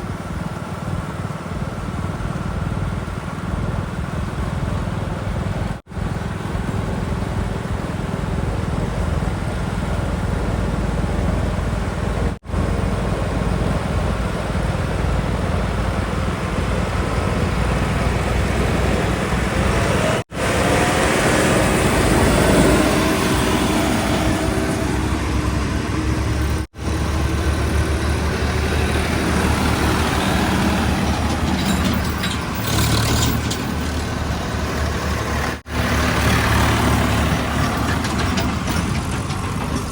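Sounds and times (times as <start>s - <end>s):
heavy vehicle engines rumbling: 0.0s - 39.9s.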